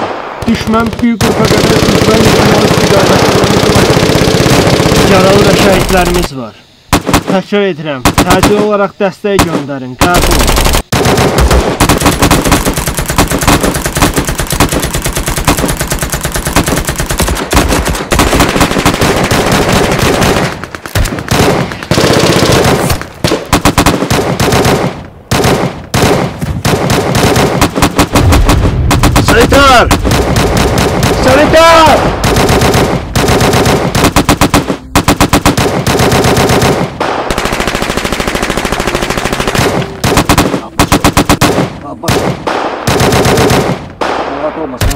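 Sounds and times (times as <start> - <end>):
automatic gunfire bursts: 0.0 - 6.3, 6.9 - 7.4, 8.0 - 8.8, 9.4 - 44.9.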